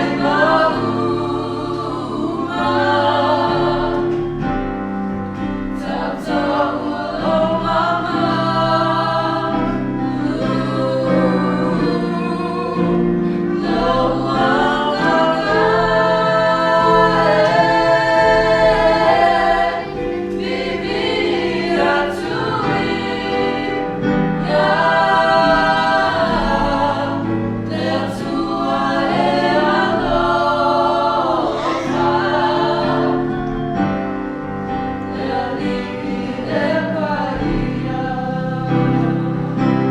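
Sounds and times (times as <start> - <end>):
sustained low accompanying notes: 0.0 - 39.9
young voices singing in harmony: 0.0 - 39.9.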